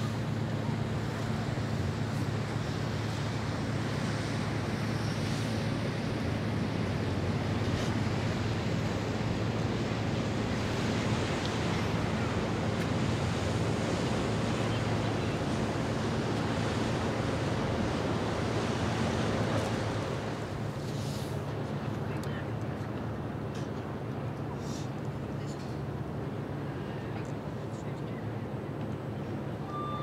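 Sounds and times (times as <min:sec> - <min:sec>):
ship engines droning: 0:00.0 - 0:30.0.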